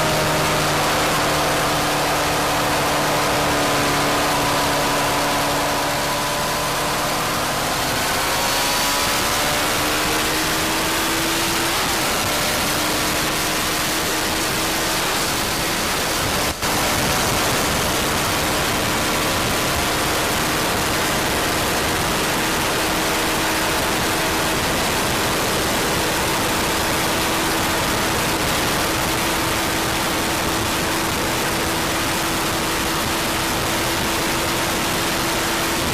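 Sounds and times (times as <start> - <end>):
motorcycle engine at high revs: 0.0 - 35.9
wind rush: 0.0 - 35.9.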